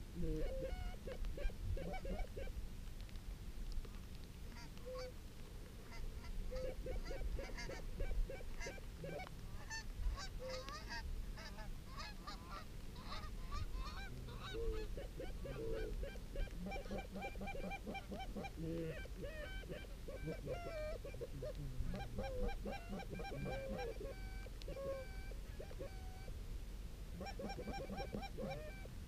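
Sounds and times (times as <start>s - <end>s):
geese honking: 0.4s - 2.5s, 4.5s - 5.1s, 5.9s - 26.3s, 27.2s - 28.9s.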